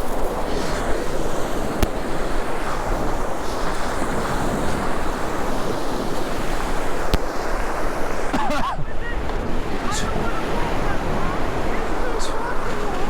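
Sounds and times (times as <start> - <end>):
sea surf breaking: 0.0 - 13.0
wind buffeting microphone: 0.0 - 13.0.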